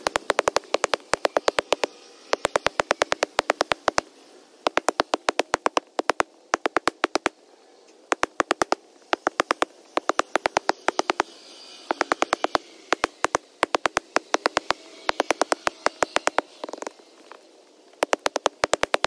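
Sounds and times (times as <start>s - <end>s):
hand tamper strokes clicking: 0.0s - 4.0s, 4.7s - 7.3s, 8.1s - 11.2s, 11.9s - 16.9s, 18.0s - 19.0s.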